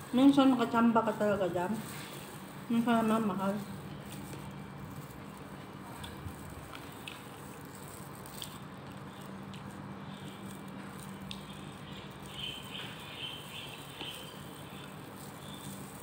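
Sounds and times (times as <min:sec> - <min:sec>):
handling food with gloves: 0:00.0 - 0:16.0
steady low hum: 0:00.0 - 0:16.0
soft chewing: 0:01.8 - 0:16.0.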